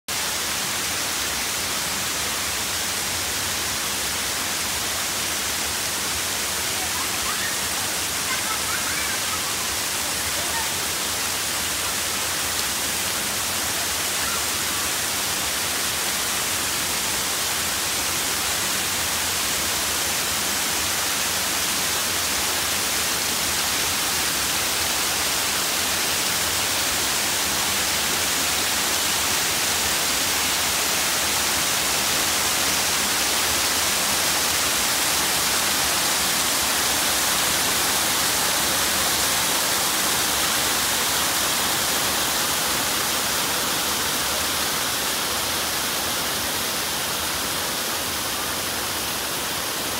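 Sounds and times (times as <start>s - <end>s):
waterfall hissing: 0.0s - 49.9s.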